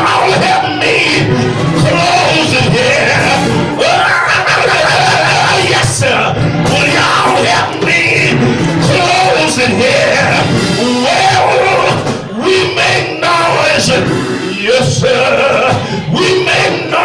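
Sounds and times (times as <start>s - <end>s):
church music: 0.0s - 17.0s
voices singing and shouting: 0.0s - 17.0s.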